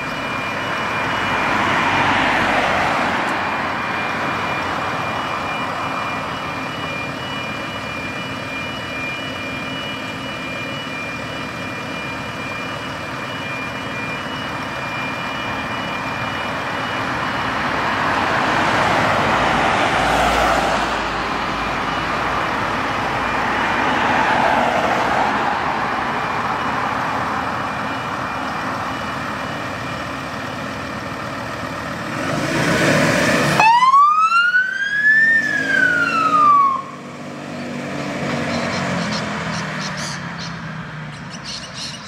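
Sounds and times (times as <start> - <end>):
electronic siren wailing: 0.0 - 37.2.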